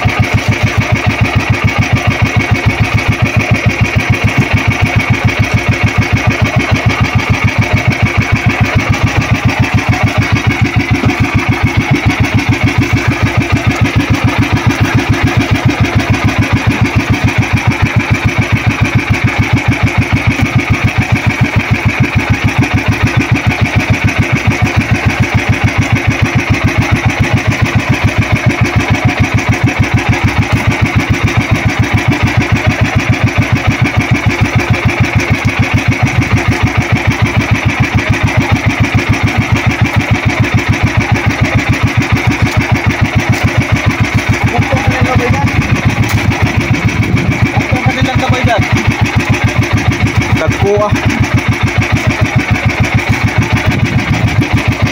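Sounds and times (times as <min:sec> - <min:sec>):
small boat engine chugging: 0:00.0 - 0:54.9.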